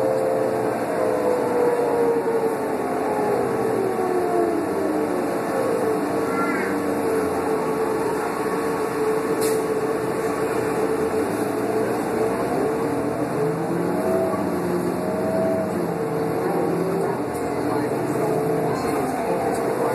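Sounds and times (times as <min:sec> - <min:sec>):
bus diesel engine droning: 0:00.0 - 0:19.9
transmission whine: 0:00.0 - 0:19.9.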